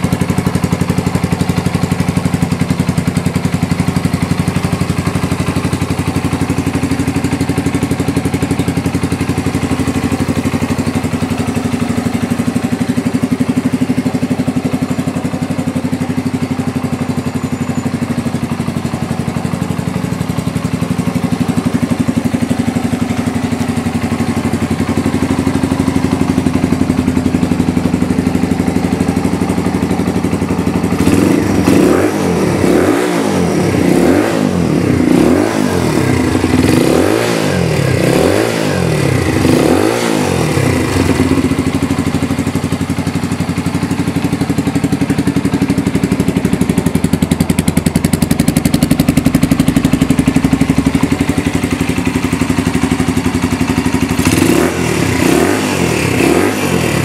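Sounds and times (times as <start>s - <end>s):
motorcycle engine revving and idling: 0.0s - 57.0s.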